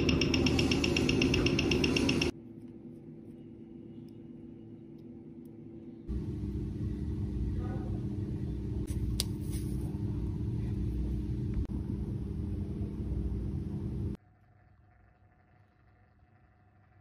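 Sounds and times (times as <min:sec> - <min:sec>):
low rumble with hum: 0:00.0 - 0:17.0.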